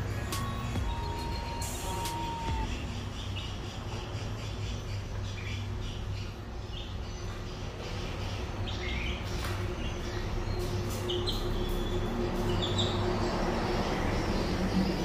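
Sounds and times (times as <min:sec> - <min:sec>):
chicks peeping: 0:00.3 - 0:15.0.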